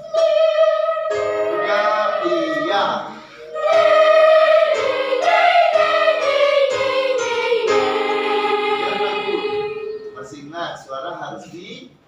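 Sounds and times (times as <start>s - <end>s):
children's choir singing: 0.0s - 10.3s
accompaniment chords: 0.0s - 10.5s.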